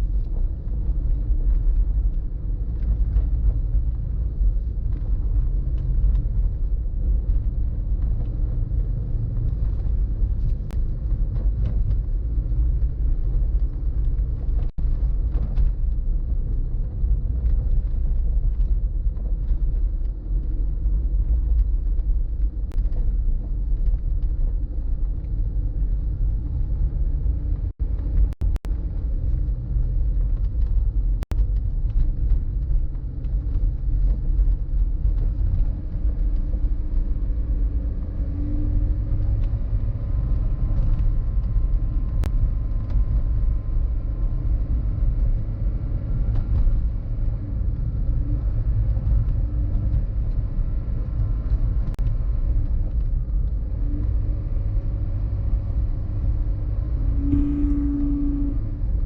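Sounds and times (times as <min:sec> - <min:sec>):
car road and wind noise: 0:00.0 - 0:59.0.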